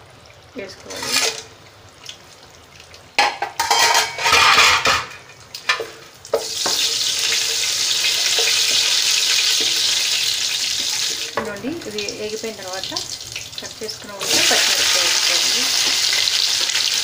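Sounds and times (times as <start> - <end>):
spices sizzling in hot oil: 0.3 - 17.0.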